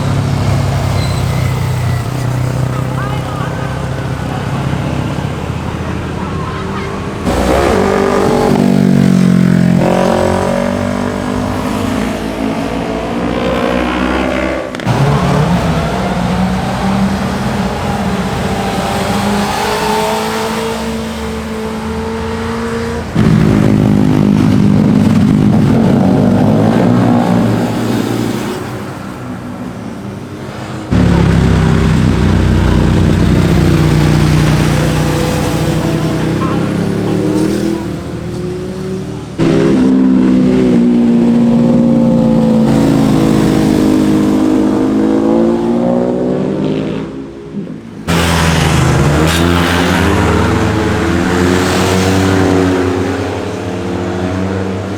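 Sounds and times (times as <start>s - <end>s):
motorcycles riding past: 0.0s - 47.3s, 48.1s - 54.9s
motorcycle engines revving: 0.0s - 54.9s.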